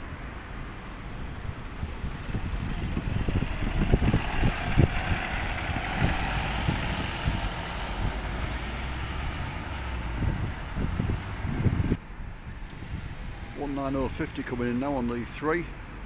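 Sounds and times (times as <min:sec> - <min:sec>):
bus engine running: 0:00.0 - 0:16.0
road and tyre noise: 0:00.0 - 0:16.0
wind buffeting microphone: 0:01.1 - 0:14.7.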